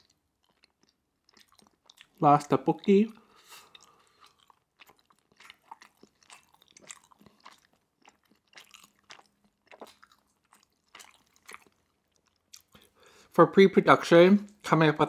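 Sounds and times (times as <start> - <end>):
chewing with wet mouth clicks: 0.0 - 13.0.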